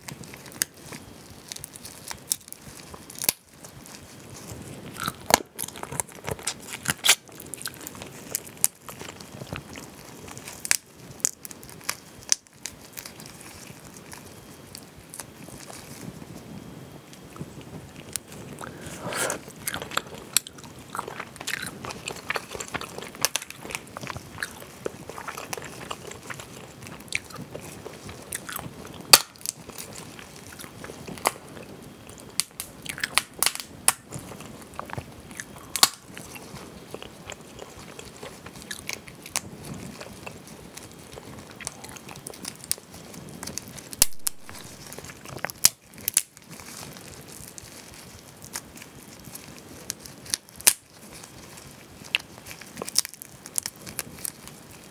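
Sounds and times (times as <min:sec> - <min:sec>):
crayfish shells cracking: 0:00.0 - 0:16.1, 0:17.1 - 0:54.9
wet chewing: 0:00.0 - 0:16.2, 0:17.1 - 0:54.9.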